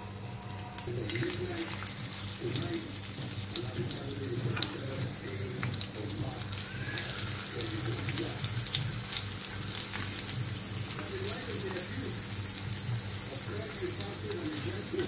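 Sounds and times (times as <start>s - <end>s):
fish sizzling in frying pan: 0.0s - 15.0s.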